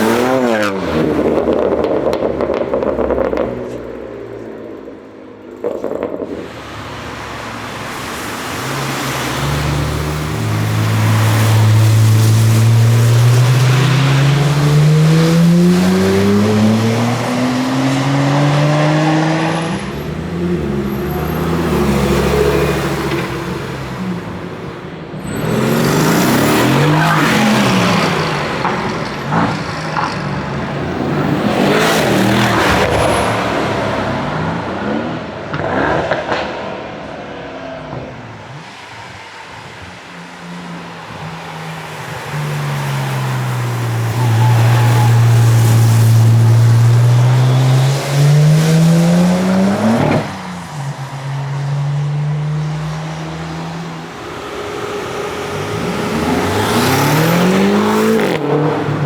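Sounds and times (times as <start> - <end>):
cars passing by: 0.0 - 59.0
car engine accelerating: 6.2 - 36.8, 40.0 - 59.0.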